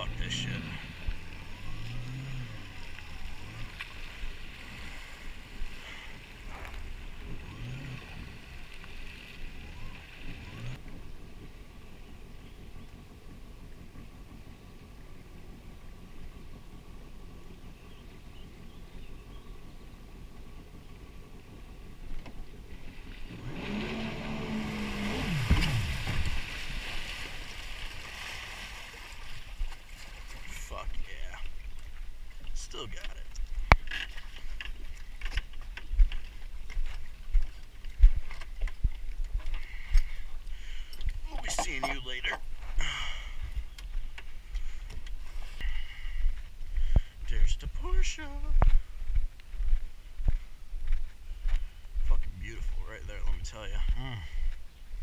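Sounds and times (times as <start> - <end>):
jet ski engine rumbling: 0.0 - 55.0
water along hull: 0.0 - 55.0.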